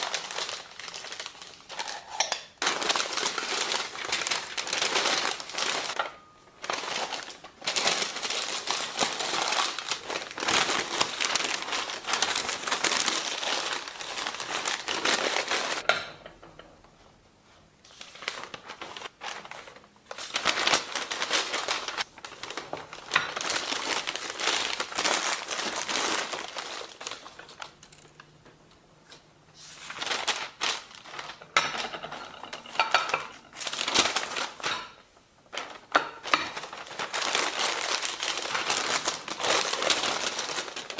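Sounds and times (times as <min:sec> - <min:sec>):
packing paper rustling and crinkling: 0:00.0 - 0:15.8, 0:17.8 - 0:28.2, 0:29.1 - 0:40.9.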